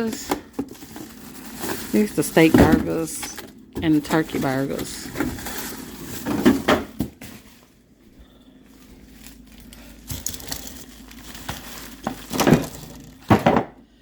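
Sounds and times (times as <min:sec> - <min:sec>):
plastic packaging crinkling: 0:00.0 - 0:07.8, 0:08.8 - 0:13.5.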